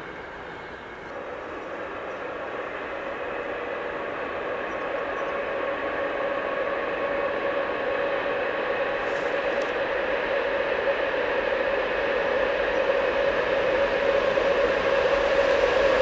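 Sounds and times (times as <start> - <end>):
electric freight train rumble: 0.0 - 16.0.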